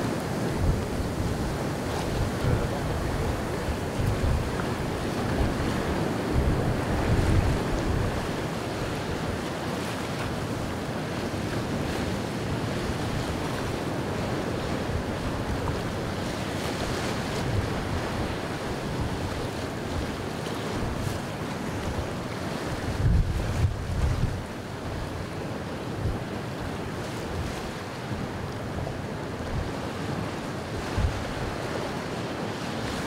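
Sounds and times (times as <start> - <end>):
rough surf breaking: 0.0 - 33.0
wind buffeting microphone: 0.0 - 33.0.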